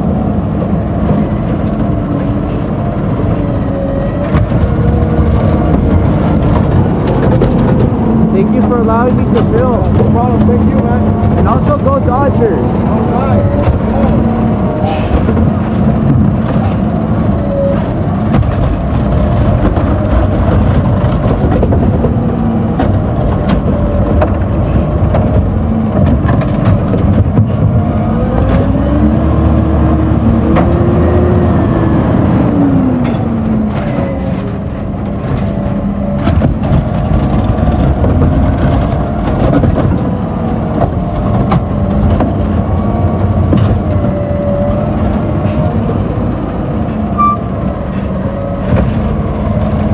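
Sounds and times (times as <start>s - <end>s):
garbage truck engine revving: 0.0s - 49.9s.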